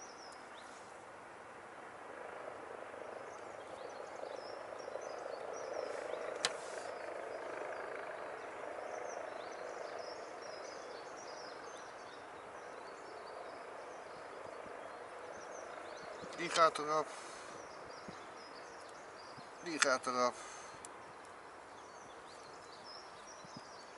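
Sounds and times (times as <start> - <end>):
soft rushing background: 0.1 - 23.9.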